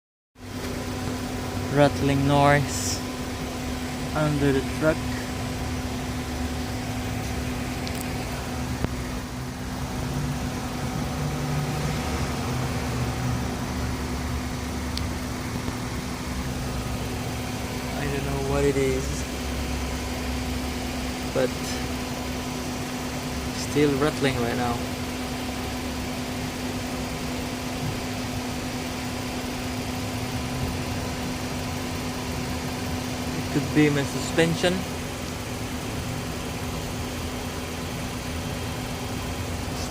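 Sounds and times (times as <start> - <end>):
truck engine rumbling: 0.4 - 39.9.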